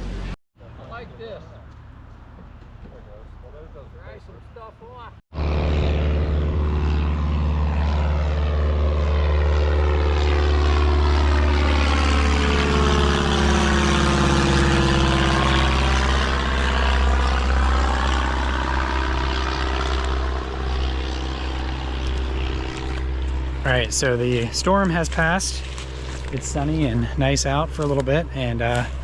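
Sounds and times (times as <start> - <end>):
propeller airplane flying past: 0.0 - 29.0.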